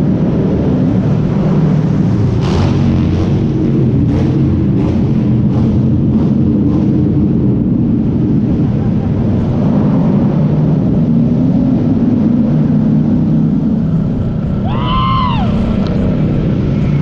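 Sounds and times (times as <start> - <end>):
motorcycle idling rumble: 2.8 - 17.0.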